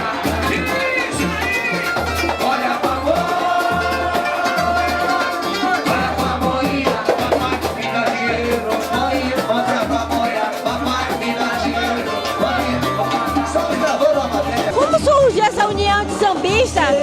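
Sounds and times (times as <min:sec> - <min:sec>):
live samba band music: 0:00.0 - 0:17.0.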